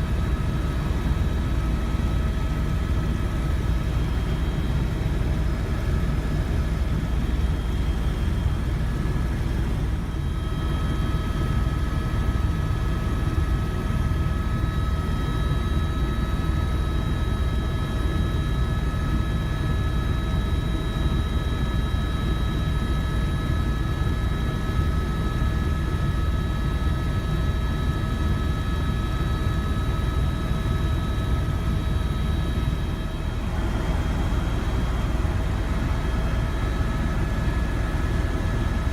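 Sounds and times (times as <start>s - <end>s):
helicopter rotor and engine rumble: 0.0s - 38.9s.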